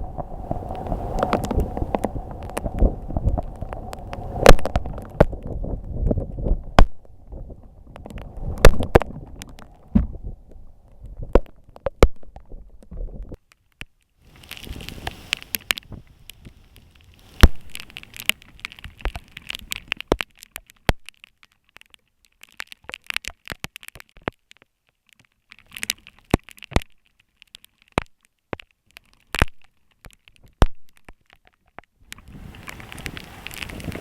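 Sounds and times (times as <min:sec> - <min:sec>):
raindrops striking microphone: 0:00.0 - 0:13.5, 0:14.2 - 0:34.0.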